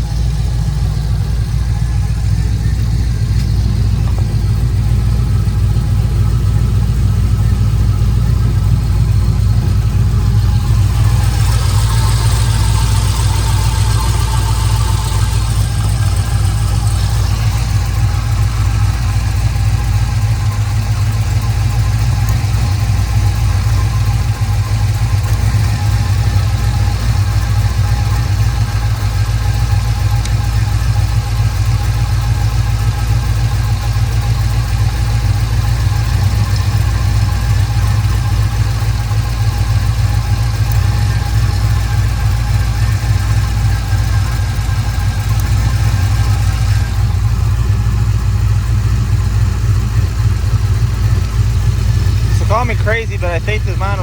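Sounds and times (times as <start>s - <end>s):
car engine idling with a miss: 0.0s - 54.0s.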